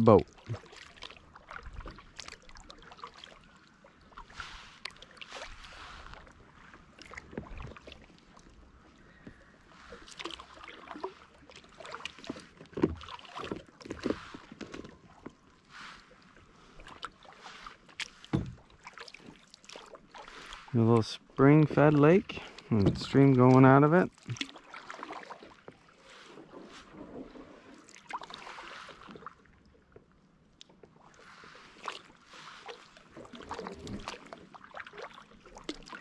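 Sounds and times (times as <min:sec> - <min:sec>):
paddle swishing through water: 0:00.0 - 0:36.0.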